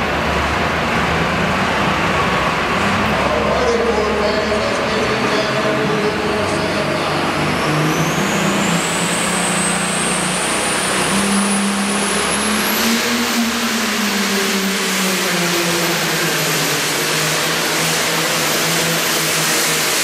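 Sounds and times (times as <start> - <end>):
high whine: 0.0 - 20.0.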